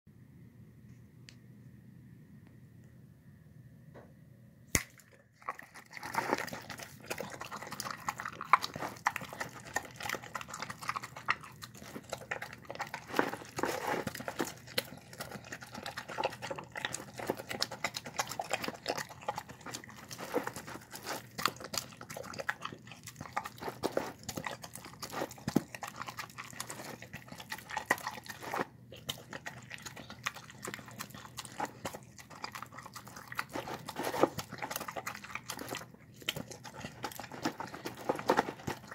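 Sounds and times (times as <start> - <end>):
dog chewing and lapping: 5.1 - 38.9.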